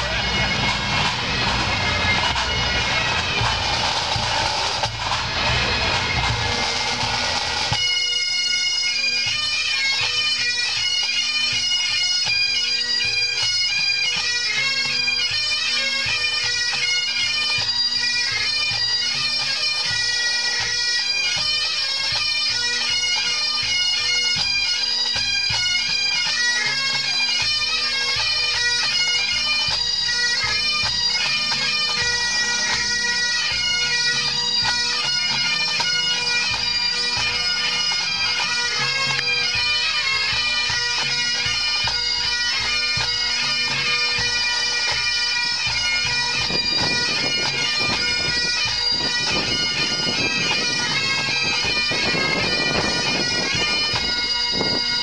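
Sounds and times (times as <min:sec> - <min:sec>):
bagpipes playing: 0:00.0 - 0:55.0
pipe band drums: 0:00.0 - 0:55.0.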